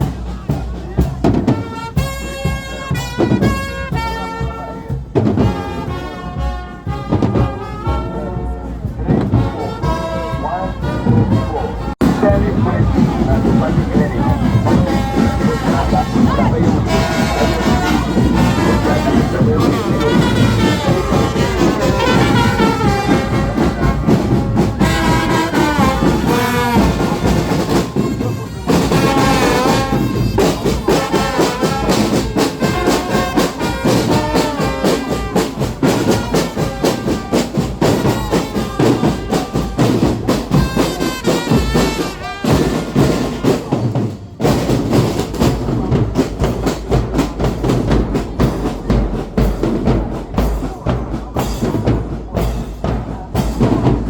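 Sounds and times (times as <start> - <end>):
drums: 0.0 - 54.0
horns playing a melody: 0.0 - 54.0.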